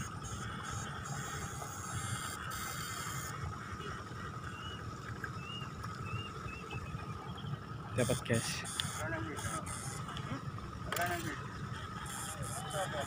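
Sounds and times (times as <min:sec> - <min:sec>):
thin steady hum: 0:00.0 - 0:13.0.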